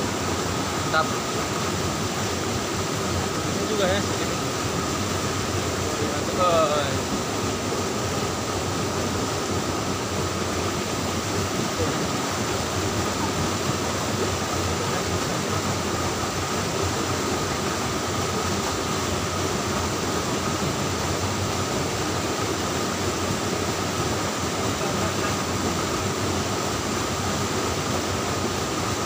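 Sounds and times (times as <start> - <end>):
stream rushing over stones: 0.0 - 29.0.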